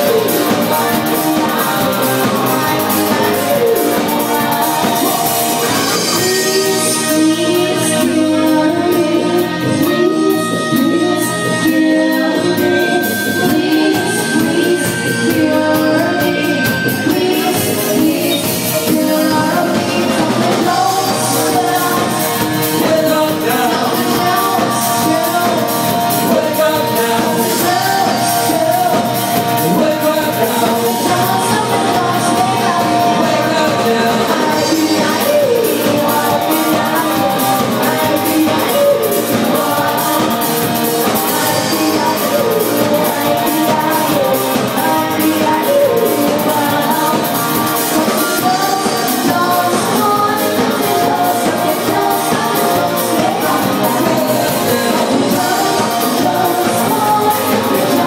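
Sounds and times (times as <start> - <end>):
pop-rock band playing: 0.0 - 58.0
woman singing: 0.0 - 58.0.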